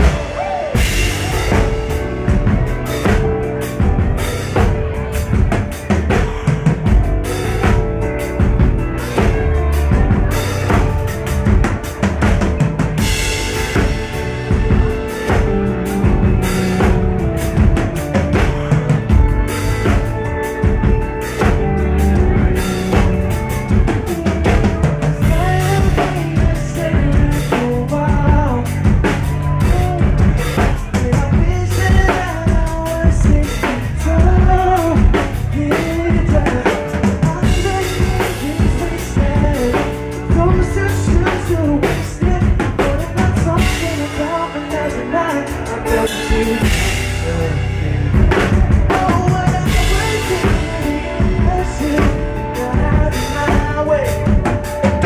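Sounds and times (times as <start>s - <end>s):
bass guitar: 0.0s - 55.0s
drum kit beat: 0.0s - 55.0s
electric guitar: 0.0s - 55.0s
male lead vocal: 0.0s - 55.0s.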